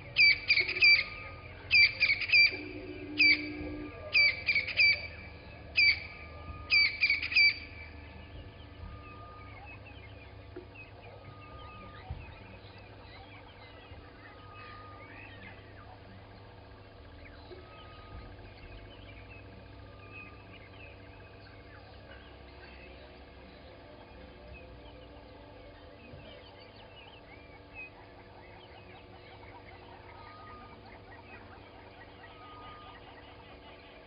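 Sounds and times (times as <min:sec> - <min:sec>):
harsh bird calls: 0:00.0 - 0:34.0
soft bird chirps: 0:00.0 - 0:34.0.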